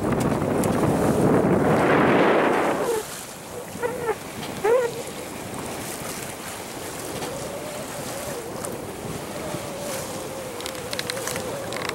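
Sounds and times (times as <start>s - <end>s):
water washing past a hull: 0.0s - 11.9s
wind buffeting the microphone: 0.0s - 11.9s.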